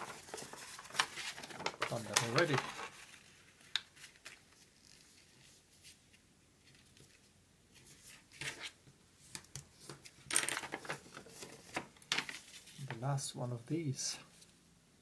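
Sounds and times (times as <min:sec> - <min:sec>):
paper rustling: 0:00.0 - 0:08.7, 0:09.3 - 0:13.0.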